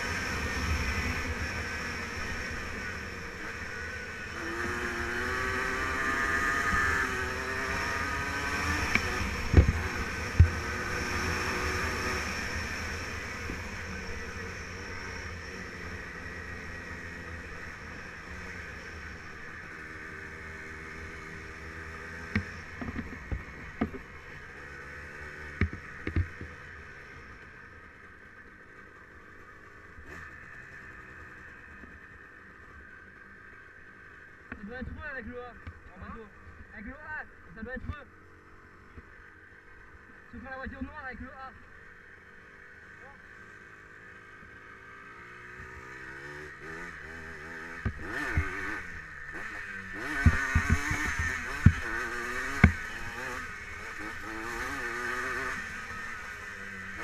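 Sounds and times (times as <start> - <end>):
two-stroke engine running: 0.0 - 57.0.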